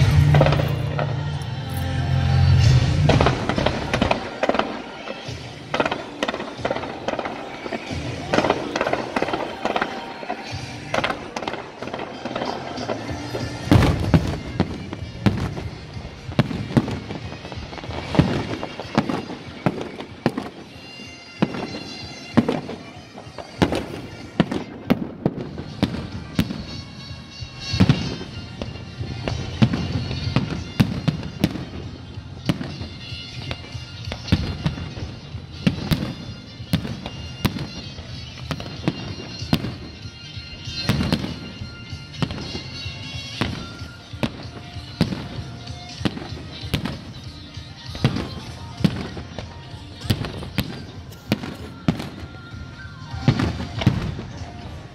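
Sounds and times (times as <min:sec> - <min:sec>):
fireworks bangs: 0:00.0 - 0:54.9
music: 0:00.0 - 0:54.9.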